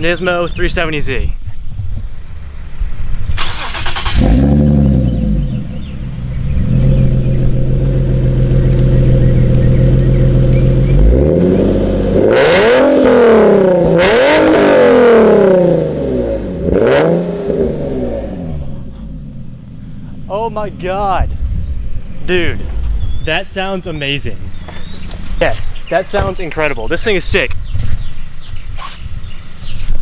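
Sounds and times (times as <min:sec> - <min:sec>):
car engine idling and revving: 0:02.0 - 0:26.6.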